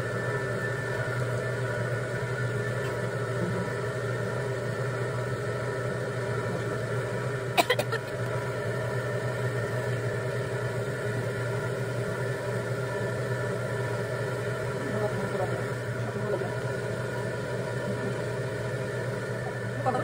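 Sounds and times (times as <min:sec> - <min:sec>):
potter's wheel motor humming: 0:00.0 - 0:20.0.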